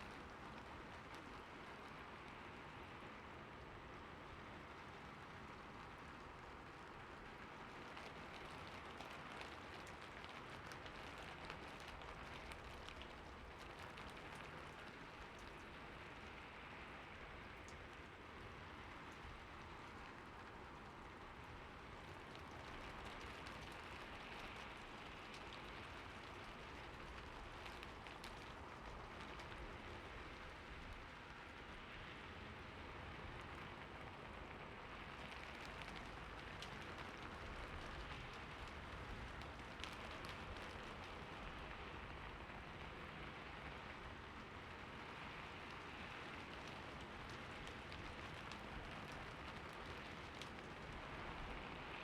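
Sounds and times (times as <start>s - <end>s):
steady rain falling: 0.0s - 52.0s
sharp raindrop taps: 5.5s - 32.0s, 34.7s - 52.0s.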